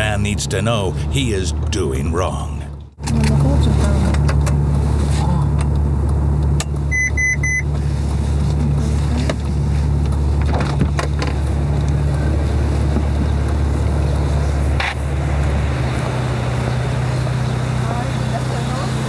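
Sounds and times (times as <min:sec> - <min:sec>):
car engine droning at low revs: 0:00.0 - 0:19.0
steady engine hum: 0:00.0 - 0:19.0.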